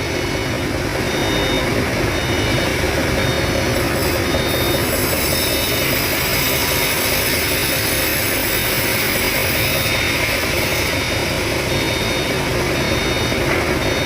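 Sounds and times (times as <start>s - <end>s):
sawmill machinery engine running: 0.0s - 14.0s.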